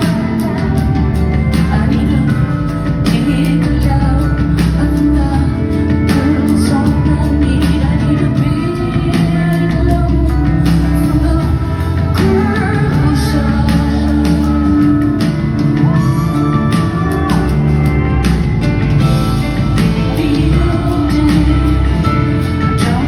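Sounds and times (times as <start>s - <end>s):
rock band playing: 0.0s - 23.0s
woman singing: 0.0s - 23.0s.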